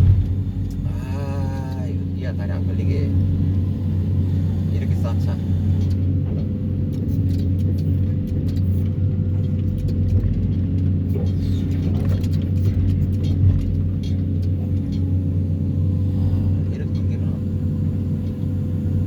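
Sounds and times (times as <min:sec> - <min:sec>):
excavator diesel engine humming: 0:00.0 - 0:19.0.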